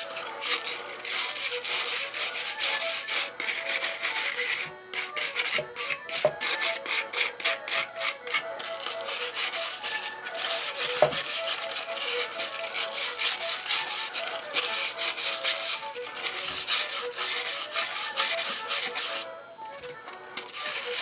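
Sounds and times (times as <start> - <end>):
brush scrubbing metal: 0.0 - 19.3, 20.1 - 21.0.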